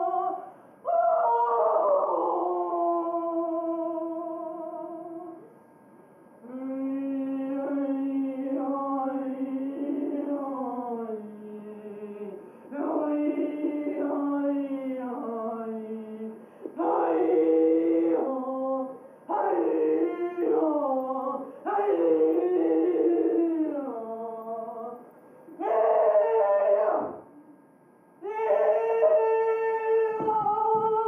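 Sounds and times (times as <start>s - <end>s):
person singing long wordless notes: 0.0s - 5.5s, 6.4s - 27.6s, 28.2s - 31.0s.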